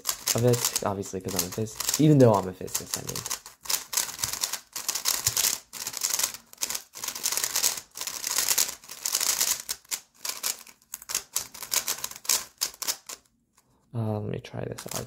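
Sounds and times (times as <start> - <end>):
plastic puzzle cube clicking: 0.0 - 13.3, 14.8 - 15.0.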